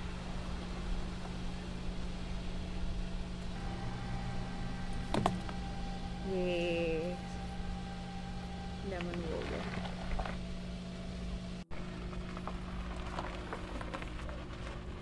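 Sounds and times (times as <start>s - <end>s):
car rolling with low hum: 0.0s - 15.0s.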